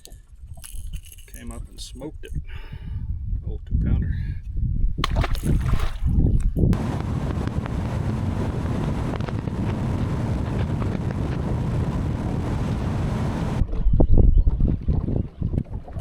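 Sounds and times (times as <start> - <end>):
wind rushing over microphone: 2.2 - 16.0.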